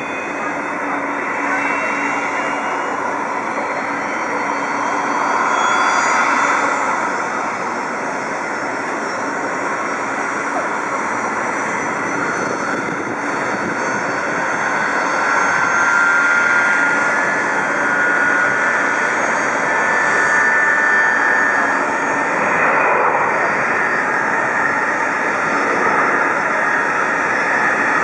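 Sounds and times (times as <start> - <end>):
jet airliner engines running: 0.0 - 28.0.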